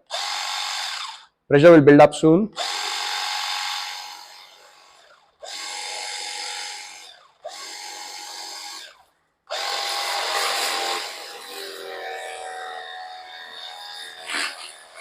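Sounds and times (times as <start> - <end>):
pressure washer pump whining: 2.6 - 15.0.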